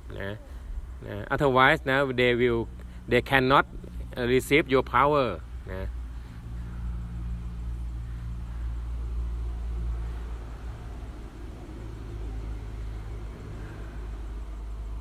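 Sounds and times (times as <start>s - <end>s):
faint wavering mid-range sound: 0.0s - 15.0s
low mechanical hum and rumble: 0.0s - 15.0s.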